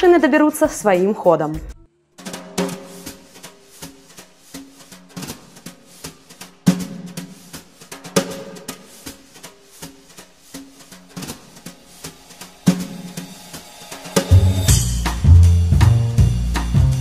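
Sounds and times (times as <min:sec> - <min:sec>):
background music with drum beat: 0:00.0 - 0:17.0.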